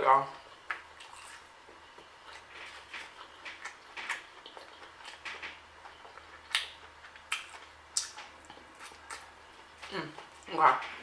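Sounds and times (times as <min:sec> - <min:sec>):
person chewing with lips smacking: 0:00.6 - 0:10.5.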